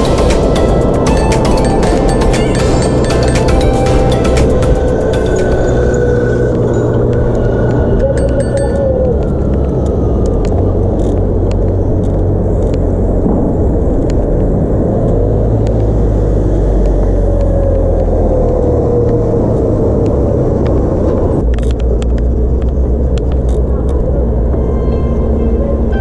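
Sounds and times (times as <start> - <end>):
passing vehicle whine: 0.0 - 26.0
wind and tyre rumble: 0.0 - 26.0.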